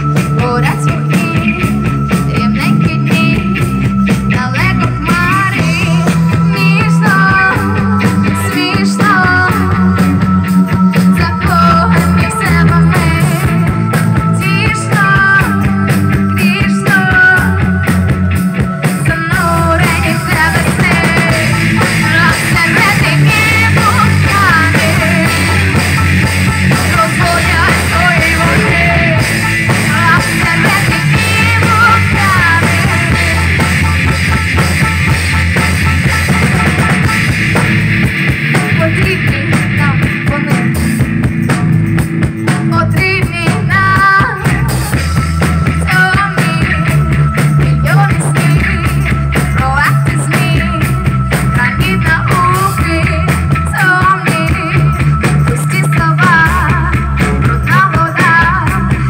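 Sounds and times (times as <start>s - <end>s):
woman singing into a microphone: 0.0s - 17.9s, 18.7s - 34.0s, 38.6s - 41.0s, 42.6s - 59.0s
drum kit: 0.0s - 59.0s
electric guitars: 0.0s - 59.0s
keyboards: 0.0s - 59.0s.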